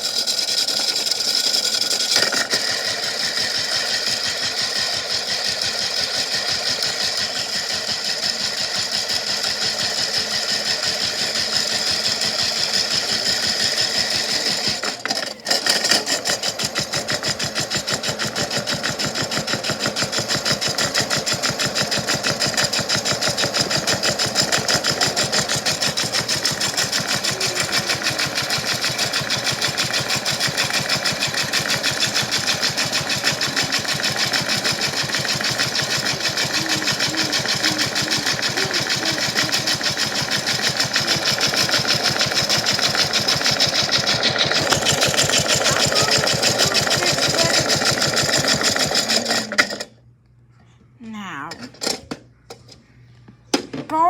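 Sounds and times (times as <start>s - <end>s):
small motor buzzing rattle: 0.0s - 50.0s.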